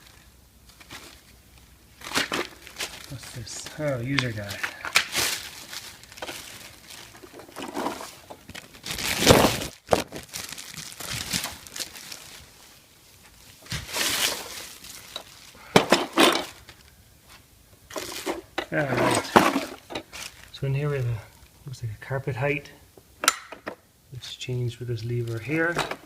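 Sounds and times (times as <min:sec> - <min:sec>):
plastic wrap crinkling: 0:00.0 - 0:21.6, 0:25.0 - 0:26.0.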